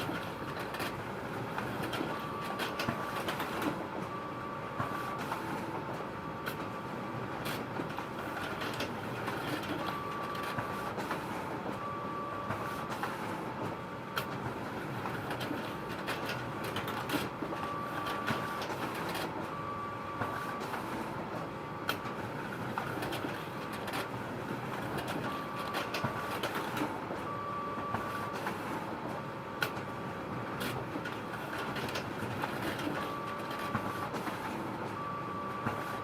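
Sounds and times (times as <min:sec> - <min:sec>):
photocopier whirring: 0:00.0 - 0:36.0.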